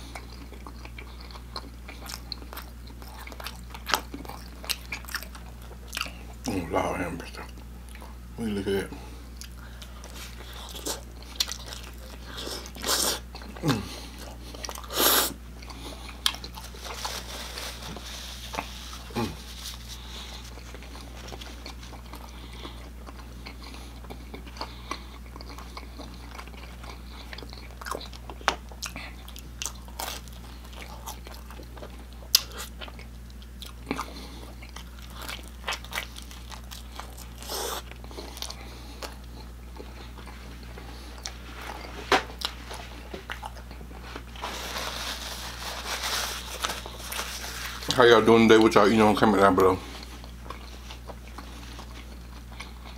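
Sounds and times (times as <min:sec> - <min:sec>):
person chewing crunchy pizza: 0:00.0 - 0:52.9.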